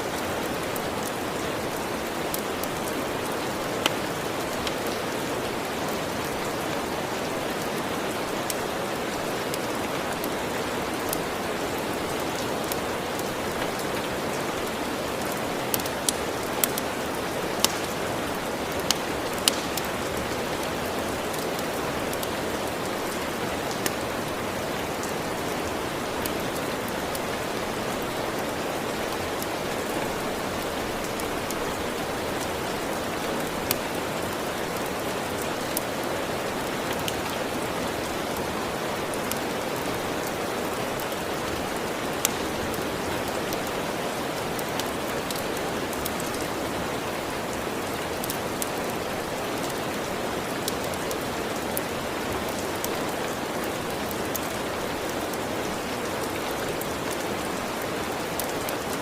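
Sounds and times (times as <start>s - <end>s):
steady rain: 0.0s - 59.0s
wood fire crackling: 0.1s - 46.5s, 48.0s - 59.0s.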